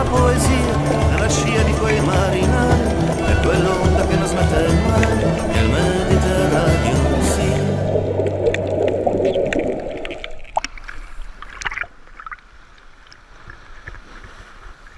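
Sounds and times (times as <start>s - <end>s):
muffled underwater rushing and bubbling: 0.0s - 14.9s.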